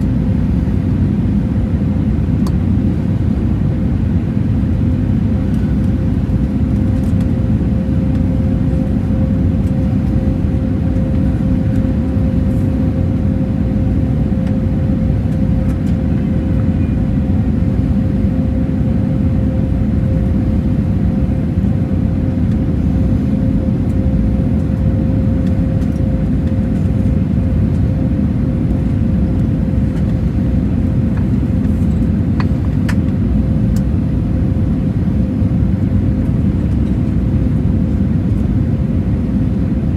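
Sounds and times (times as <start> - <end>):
airplane cabin rumble: 0.0 - 39.9
steady hum tone: 0.0 - 39.9.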